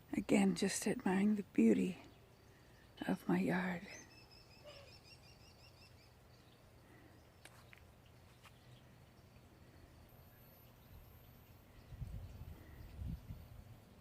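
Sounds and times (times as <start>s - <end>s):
distant songbird trill: 0.2s - 13.9s.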